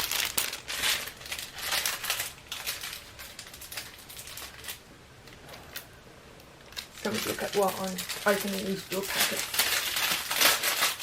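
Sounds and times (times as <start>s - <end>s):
plastic packaging crinkling: 0.0s - 5.9s, 6.6s - 11.0s.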